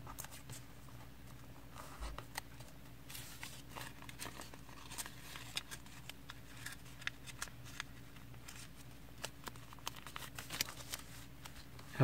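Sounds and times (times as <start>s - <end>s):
paper being folded and creased: 1.7s - 12.0s.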